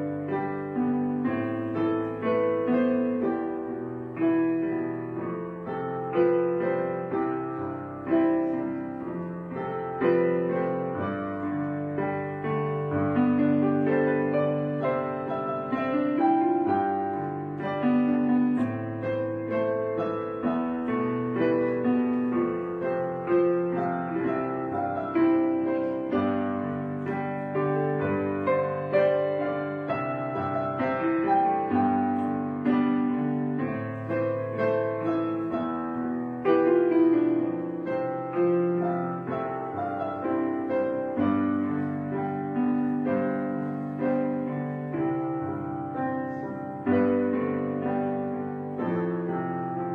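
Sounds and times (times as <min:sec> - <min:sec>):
gentle piano music: 0:00.0 - 0:49.9.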